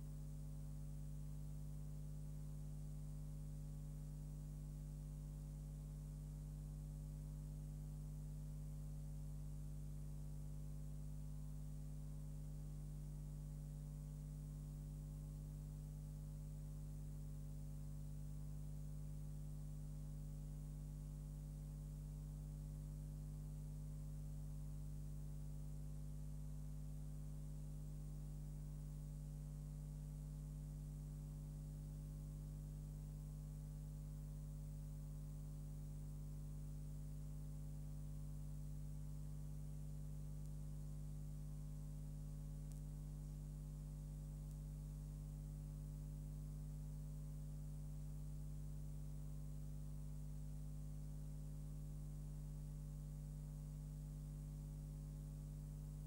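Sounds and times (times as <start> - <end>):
electrical mains hum: 0.0 - 54.2.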